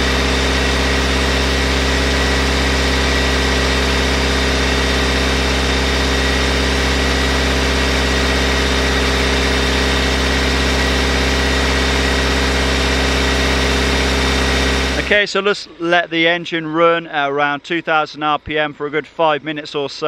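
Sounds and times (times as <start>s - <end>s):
car engine running: 0.0s - 19.2s.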